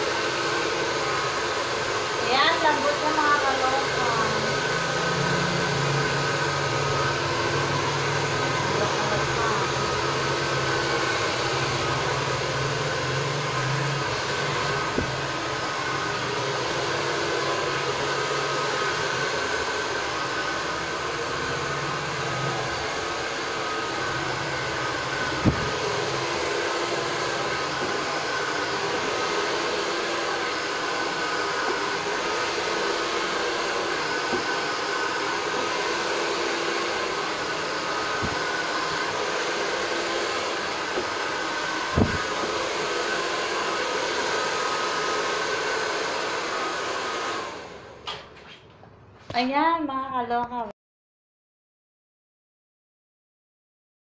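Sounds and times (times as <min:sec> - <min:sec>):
hair dryer blowing: 0:00.0 - 0:48.4.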